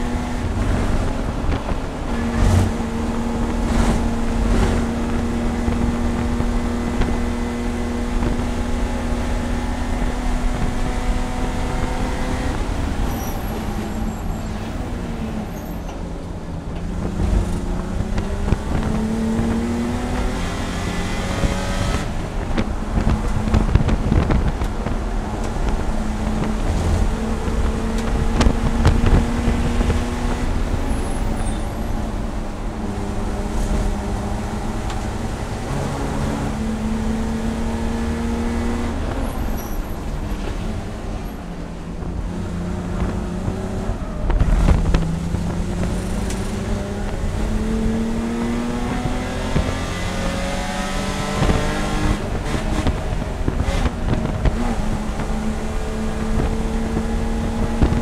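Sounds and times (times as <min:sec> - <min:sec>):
race car engine revving: 0:00.0 - 0:58.0
road and wind noise: 0:00.0 - 0:58.0.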